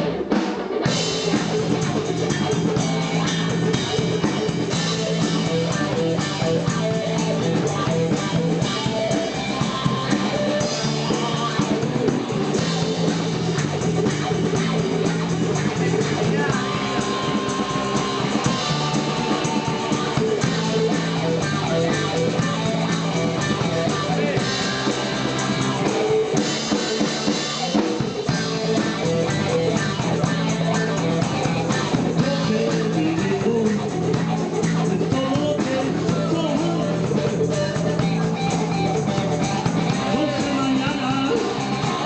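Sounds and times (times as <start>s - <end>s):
blues-rock band playing live: 0.0s - 42.0s
drum kit: 0.0s - 42.0s
guitar: 0.0s - 42.0s
stepping bass line: 0.8s - 42.0s.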